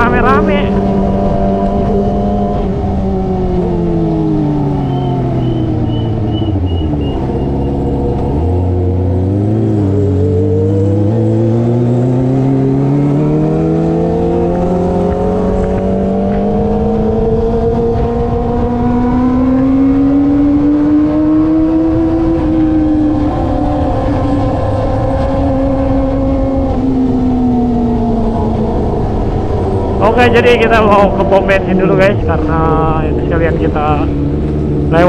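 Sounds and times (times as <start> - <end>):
loud motorcycle engine revving: 0.0 - 35.0.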